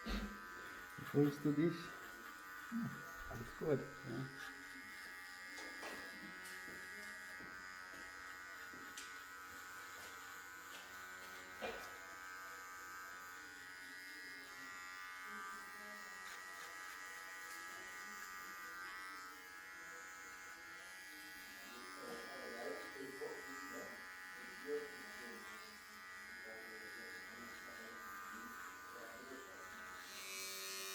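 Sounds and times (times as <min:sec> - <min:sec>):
electric hair clippers buzzing: 0:00.0 - 0:30.9.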